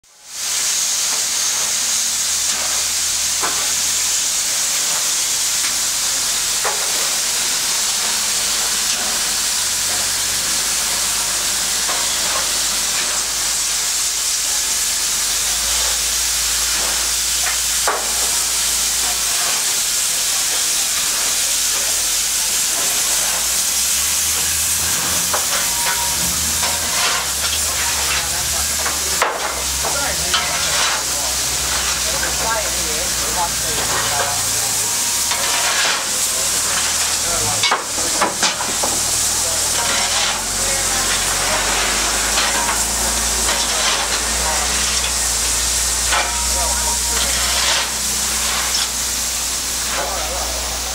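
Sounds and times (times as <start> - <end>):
loud hiss of escaping steam: 0.1 - 50.9.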